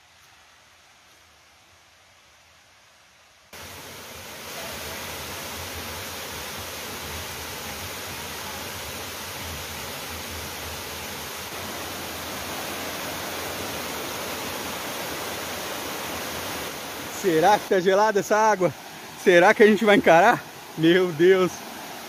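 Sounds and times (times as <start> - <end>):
waterfall rushing: 3.6 - 22.0.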